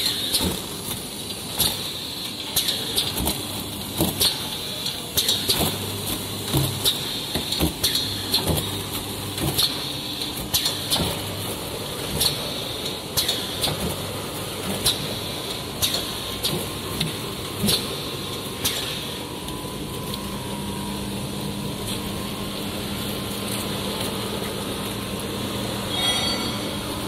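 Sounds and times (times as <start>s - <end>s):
wrapping machine humming: 0.0s - 27.0s.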